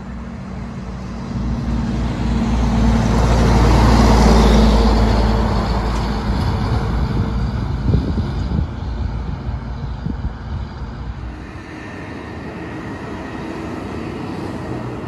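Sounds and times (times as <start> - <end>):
diesel truck driving past: 0.0 - 15.0.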